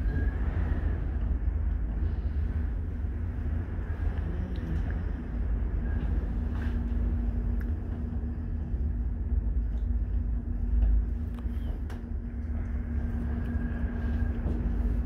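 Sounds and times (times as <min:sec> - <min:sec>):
cable car cabin rumble: 0:00.0 - 0:15.0
faint constant hum: 0:00.0 - 0:15.0.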